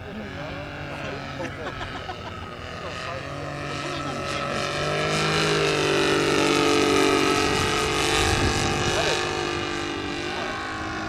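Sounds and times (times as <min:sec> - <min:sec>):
model airplane engine running: 0:00.0 - 0:11.0.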